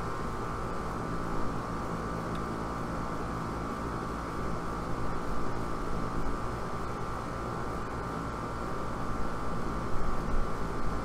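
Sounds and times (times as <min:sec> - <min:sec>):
compressor hum: 0:00.0 - 0:11.0
condenser fan: 0:00.0 - 0:11.0.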